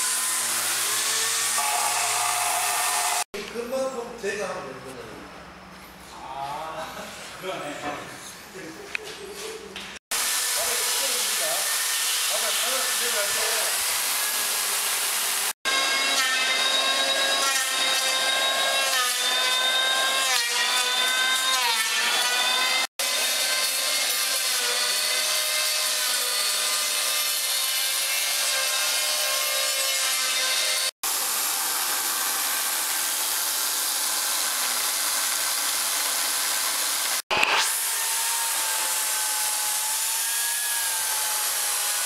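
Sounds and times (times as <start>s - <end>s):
angle grinder carving wood: 0.0s - 3.3s, 10.1s - 42.0s
electric chainsaw cutting wood: 0.0s - 3.3s, 10.1s - 42.0s.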